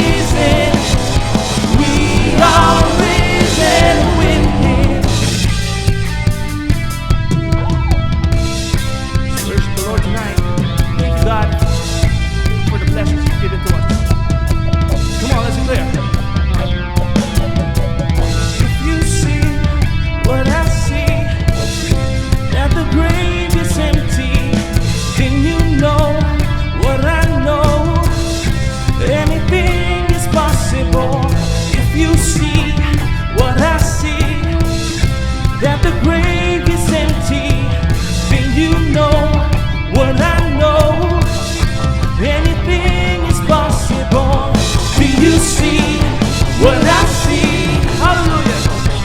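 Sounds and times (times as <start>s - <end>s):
bass: 0.0s - 49.0s
drum kit beat: 0.0s - 49.0s
worship band music: 0.0s - 49.0s.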